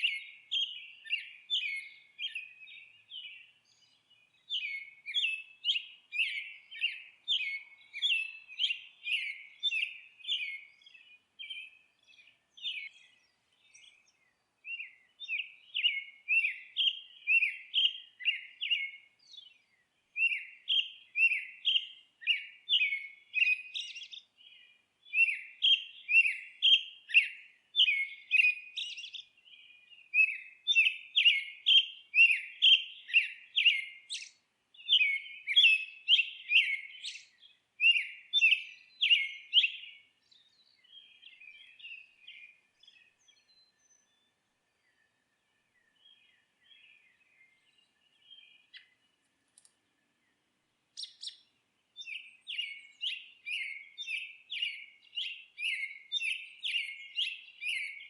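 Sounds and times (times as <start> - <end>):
songbird chirping and twittering: 0.0 - 58.0.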